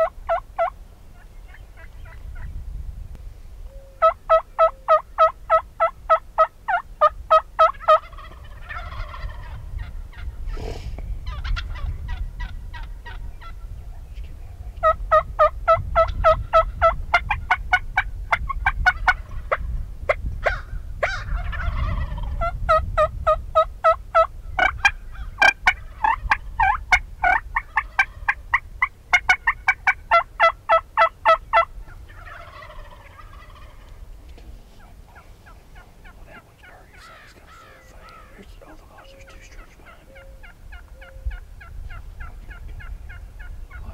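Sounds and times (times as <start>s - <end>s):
turkey gobble rattling: 0.0s - 2.2s, 4.0s - 10.2s, 11.2s - 13.6s, 14.8s - 19.6s, 20.4s - 34.0s, 34.8s - 43.9s
turkeys yelping: 0.0s - 2.5s, 4.0s - 10.4s, 11.2s - 13.6s, 14.8s - 19.6s, 20.4s - 34.0s, 34.8s - 43.9s.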